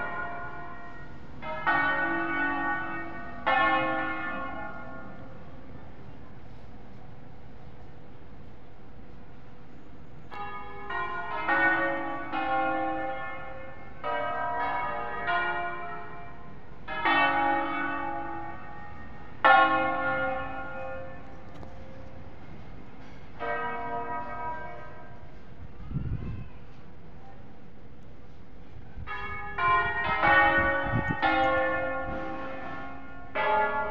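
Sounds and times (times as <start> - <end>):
church bells ringing: 0.0 - 9.1, 10.2 - 25.8, 29.0 - 33.9.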